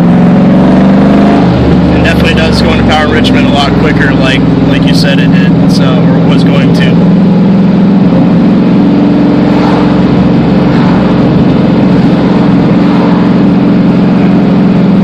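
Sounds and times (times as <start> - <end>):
car engine drone: 0.0 - 15.0.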